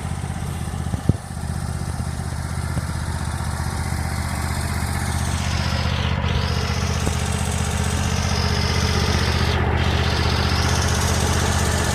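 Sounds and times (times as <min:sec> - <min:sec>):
riding mower engine running: 0:00.0 - 0:11.9.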